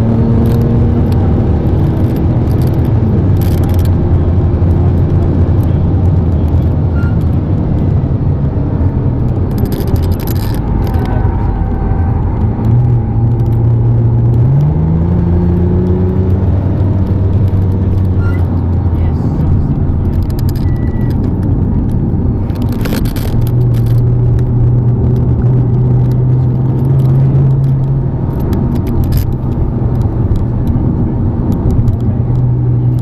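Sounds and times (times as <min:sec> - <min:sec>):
road and wind noise: 0:00.0 - 0:33.0
sports car engine under load: 0:00.0 - 0:33.0.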